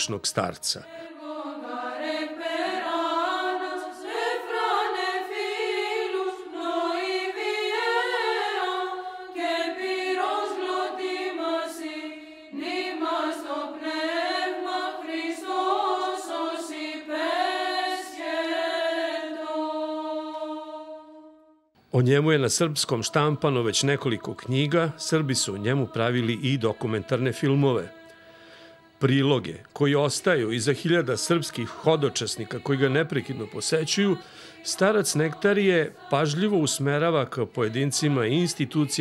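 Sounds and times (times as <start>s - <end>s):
congregation singing a hymn: 0.0s - 21.4s, 22.0s - 39.0s.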